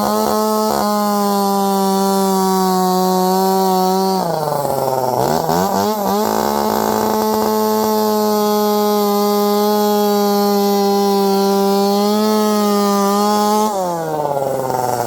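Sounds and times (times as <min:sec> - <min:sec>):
chainsaw cutting into tyre: 0:00.0 - 0:15.0.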